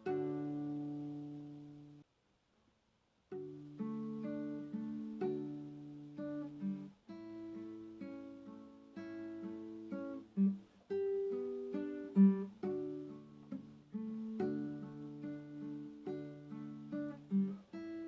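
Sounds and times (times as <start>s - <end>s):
acoustic guitar playing: 0.0s - 2.0s, 3.3s - 18.0s.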